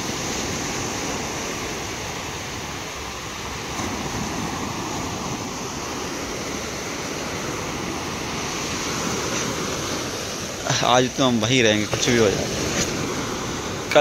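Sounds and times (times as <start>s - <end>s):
surf washing up a beach: 0.0s - 14.0s.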